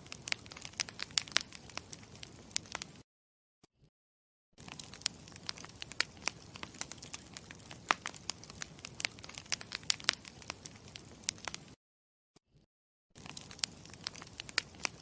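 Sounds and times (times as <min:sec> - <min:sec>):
campfire crackling: 0:00.0 - 0:03.0, 0:04.6 - 0:11.8, 0:13.2 - 0:15.0
fire popping and snapping: 0:00.0 - 0:03.0, 0:04.6 - 0:11.8, 0:13.2 - 0:15.0.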